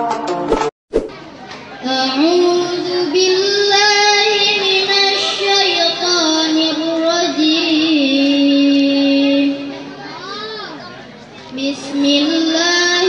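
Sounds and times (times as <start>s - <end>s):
boy chanting melodically: 1.8s - 13.0s.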